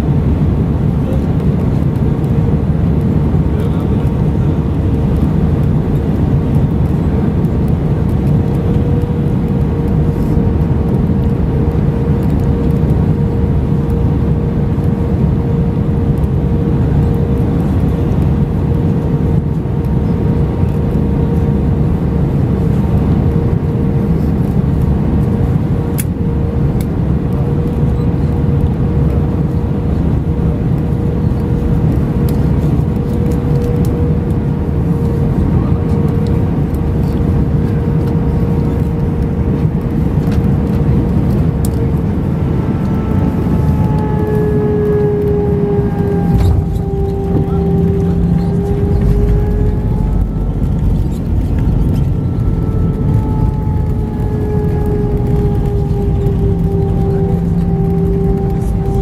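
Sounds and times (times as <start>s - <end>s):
aircraft cabin engine rush: 0.0s - 59.0s
mid-pitched hum: 0.0s - 59.0s.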